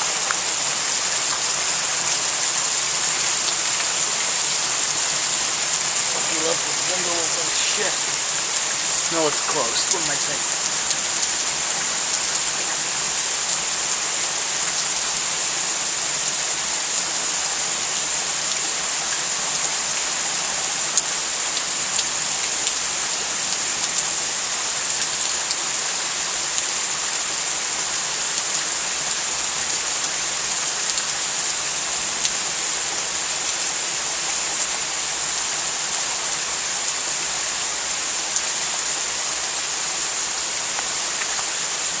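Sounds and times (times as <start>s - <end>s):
rain falling and splashing: 0.0s - 42.0s.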